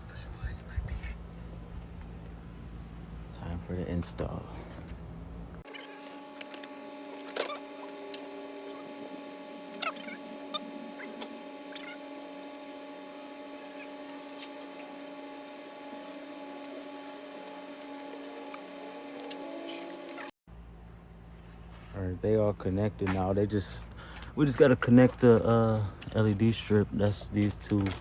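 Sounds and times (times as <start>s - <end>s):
steady hum: 0.0s - 27.2s.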